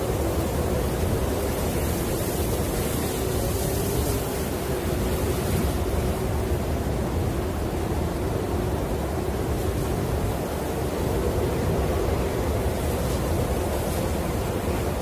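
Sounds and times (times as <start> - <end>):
storm wind rushing and moaning: 0.0 - 15.0.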